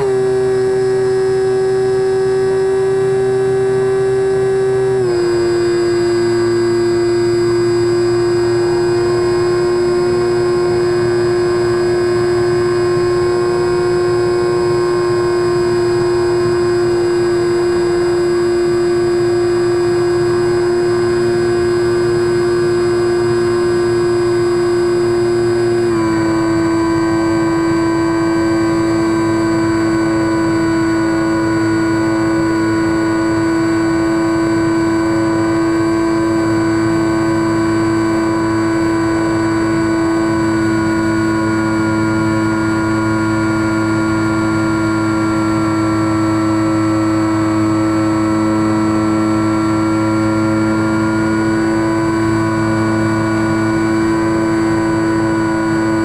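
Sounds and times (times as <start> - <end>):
electric motor and propeller drone: 0.0 - 56.0.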